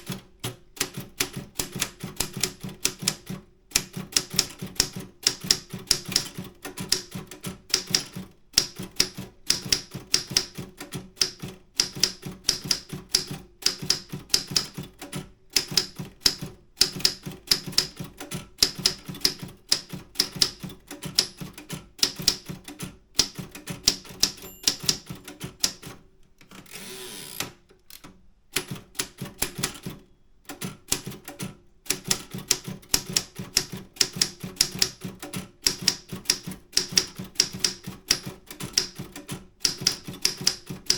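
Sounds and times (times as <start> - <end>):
typewriter typebars clacking: 0.8 - 26.0, 30.6 - 40.9.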